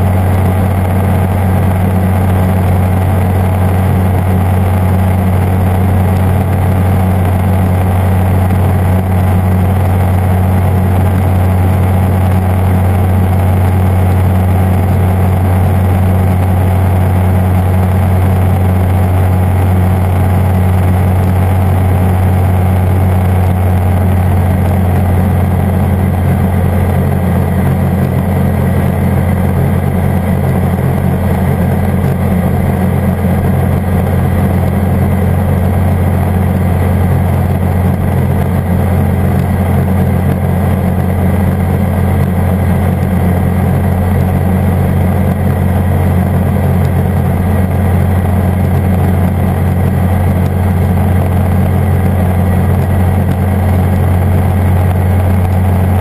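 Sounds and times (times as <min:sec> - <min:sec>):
ultralight engine and propeller hum: 0:00.0 - 0:56.0.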